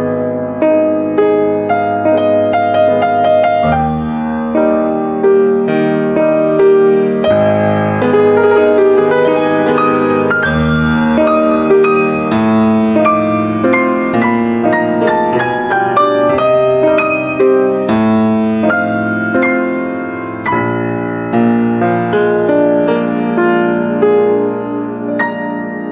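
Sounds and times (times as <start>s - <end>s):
piano melody: 0.0s - 25.9s.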